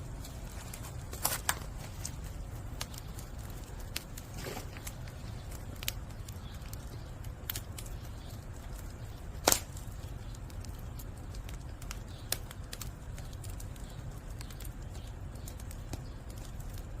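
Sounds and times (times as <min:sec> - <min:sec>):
fire low rumble: 0:00.0 - 0:17.0
firewood crackling and popping: 0:00.0 - 0:17.0.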